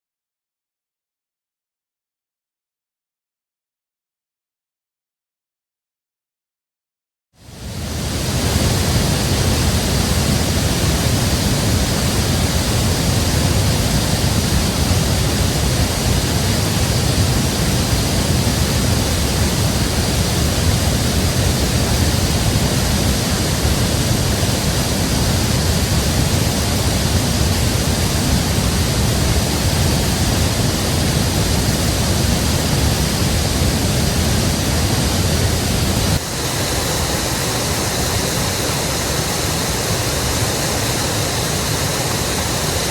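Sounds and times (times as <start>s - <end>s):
creek rushing: 7.6s - 42.9s.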